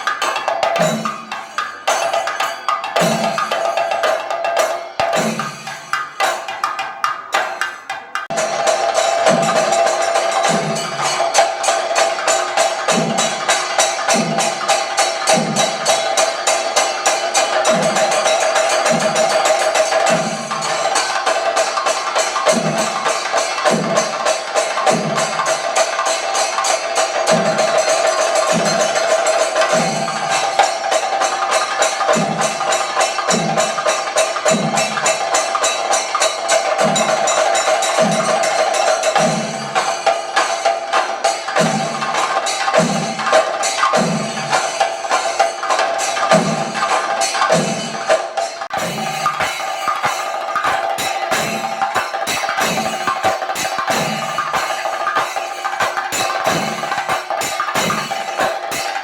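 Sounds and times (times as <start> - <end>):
fast stick strokes on drums: 0.0 - 59.0
small hand cymbals ringing: 0.0 - 59.0.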